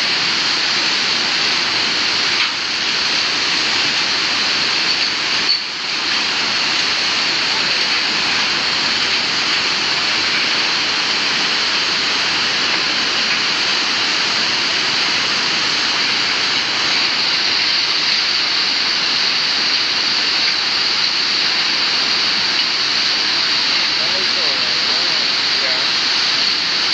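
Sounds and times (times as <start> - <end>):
flooded river rushing: 0.0 - 26.9.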